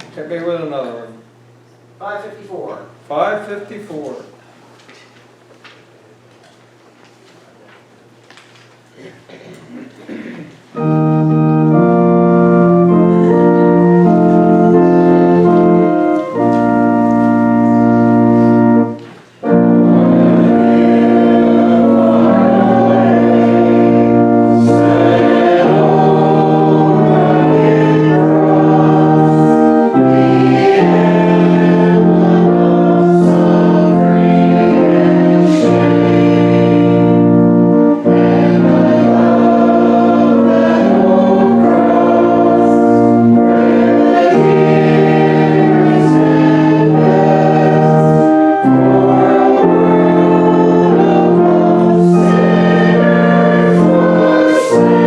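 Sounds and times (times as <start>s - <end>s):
congregation singing a hymn: 9.4s - 55.0s
organ playing held chords: 10.1s - 55.0s.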